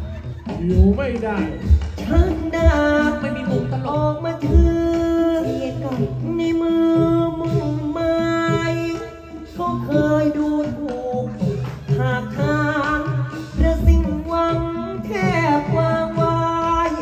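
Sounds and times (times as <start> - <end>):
instrumental accompaniment: 0.0 - 17.0
person singing long notes: 1.9 - 17.0.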